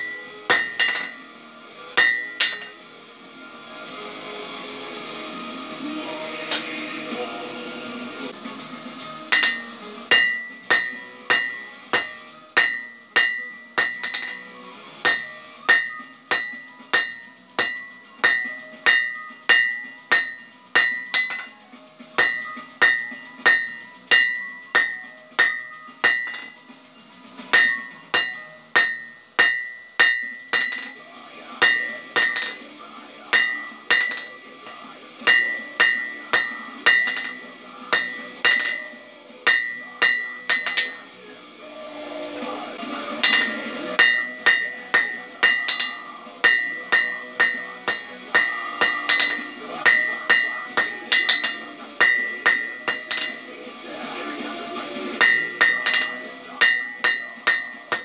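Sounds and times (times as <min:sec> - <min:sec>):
hammer striking anvil: 0:00.0 - 0:01.3, 0:01.9 - 0:02.8, 0:06.5 - 0:06.8, 0:09.2 - 0:21.6, 0:22.2 - 0:26.7, 0:27.4 - 0:41.2, 0:42.9 - 0:58.0.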